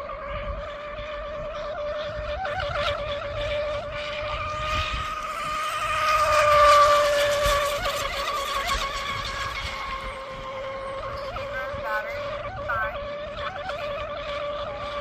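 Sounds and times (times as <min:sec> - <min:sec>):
rc boat motor whine: 0:00.0 - 0:15.0.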